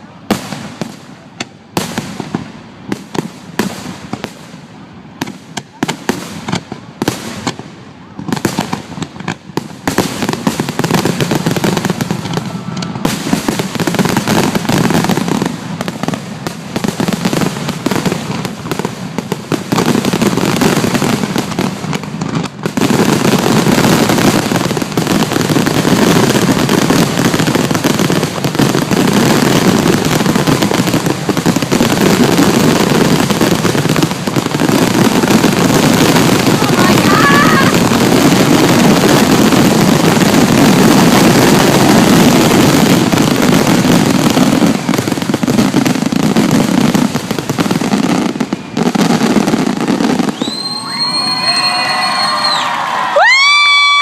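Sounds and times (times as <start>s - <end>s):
fireworks exploding: 0.0s - 54.0s.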